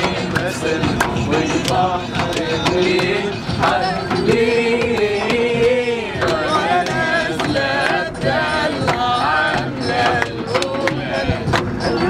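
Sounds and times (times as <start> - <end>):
group singing in unison: 0.0 - 12.0
sharp rhythmic taps: 0.0 - 12.0.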